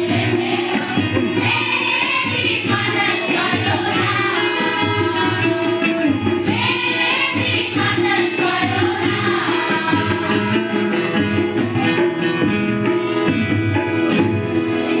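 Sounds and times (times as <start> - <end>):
children's song with instruments: 0.0 - 15.0.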